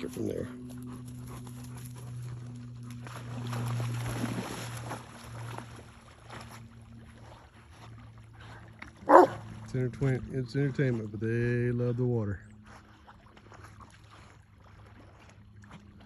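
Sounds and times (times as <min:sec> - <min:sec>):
steady low hum: 0:00.0 - 0:16.0
dogs splashing in water: 0:00.6 - 0:10.2, 0:12.6 - 0:16.0.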